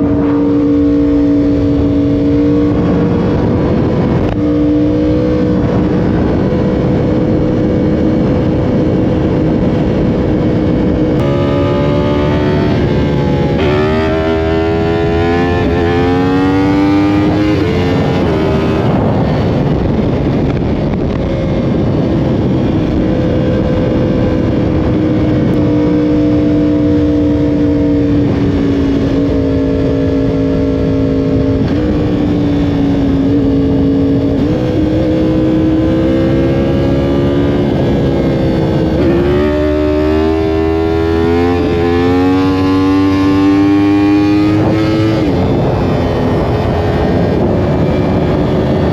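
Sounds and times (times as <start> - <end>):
motorcycle engine at high revs: 0.0 - 48.9
wind noise rushing: 0.0 - 48.9.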